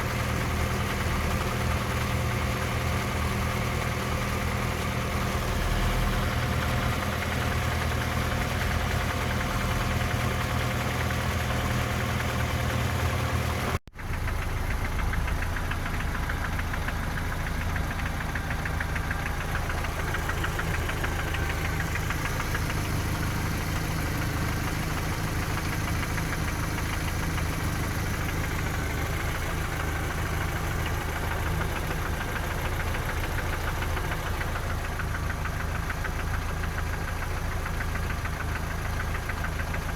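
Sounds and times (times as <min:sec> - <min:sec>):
car engine running with knock: 0:00.0 - 0:39.9.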